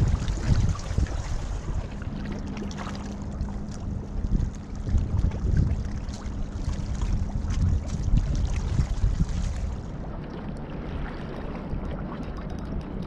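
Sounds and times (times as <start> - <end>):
water lapping at rocks: 0.0 - 13.0
wind buffeting microphone: 0.0 - 13.0.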